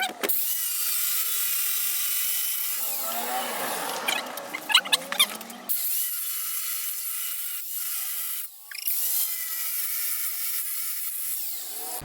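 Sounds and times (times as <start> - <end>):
angle grinder cutting metal pipe: 0.0 - 12.0.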